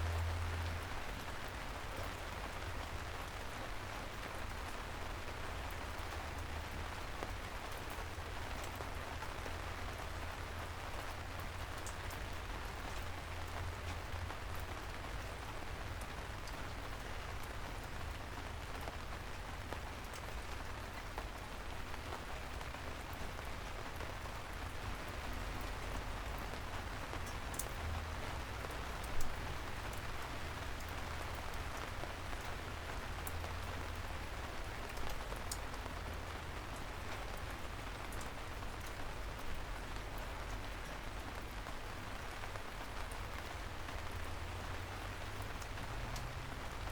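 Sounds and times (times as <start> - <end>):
raindrops ticking: 0.0 - 46.9
soft rain on city streets: 0.0 - 46.9.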